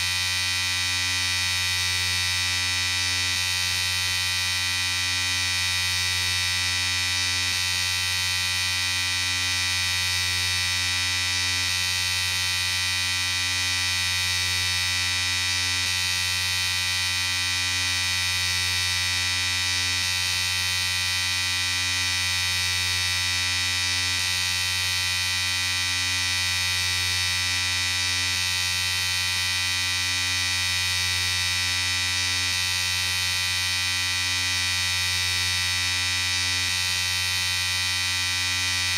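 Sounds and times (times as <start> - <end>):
electric shaver buzzing: 0.0 - 38.9.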